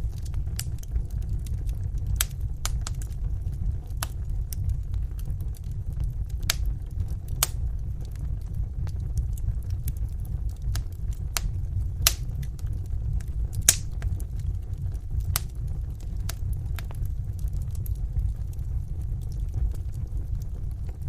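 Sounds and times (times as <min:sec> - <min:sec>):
low rumble of flame: 0:00.0 - 0:21.0
wood fire crackling and popping: 0:00.0 - 0:21.0.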